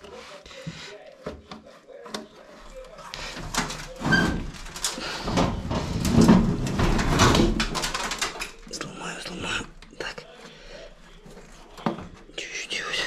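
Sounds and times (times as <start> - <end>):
rubber hose rubbing and scraping: 0.0 - 12.4.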